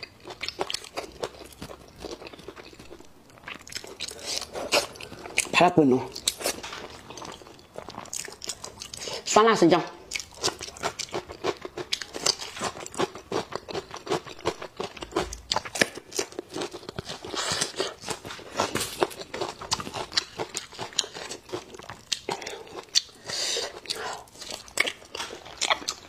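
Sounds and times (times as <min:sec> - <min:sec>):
crunchy chewing: 0:00.0 - 0:09.3, 0:10.1 - 0:26.0.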